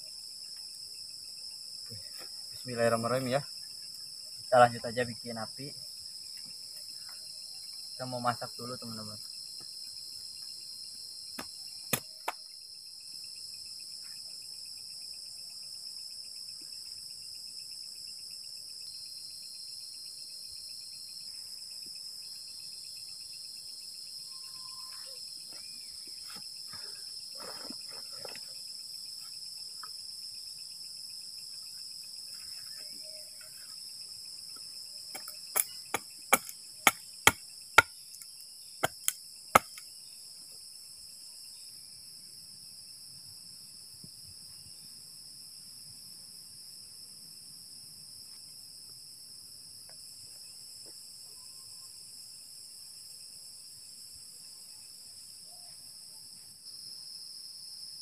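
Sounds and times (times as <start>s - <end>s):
insects chirring at night: 0.0s - 58.0s.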